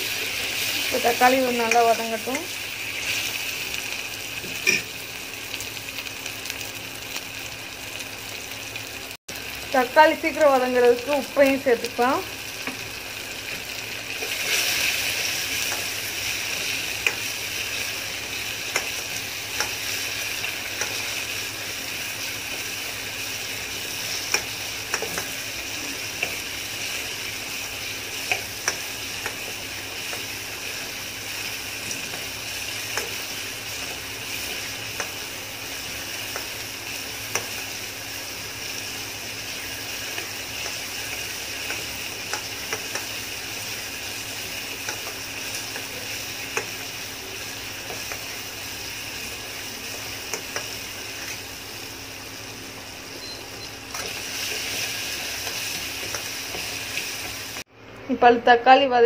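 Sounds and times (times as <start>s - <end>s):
onions sizzling in a pan: 0.0s - 58.9s.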